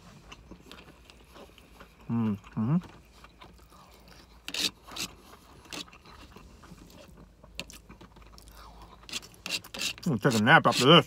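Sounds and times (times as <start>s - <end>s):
chewing food: 0.0s - 10.0s.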